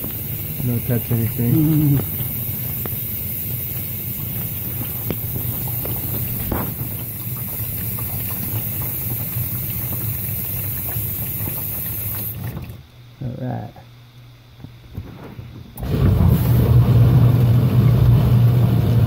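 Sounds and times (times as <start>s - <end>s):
water hissing into dishwasher: 0.0s - 12.9s, 15.8s - 19.0s
dishwasher hum: 0.0s - 13.5s, 14.6s - 19.0s.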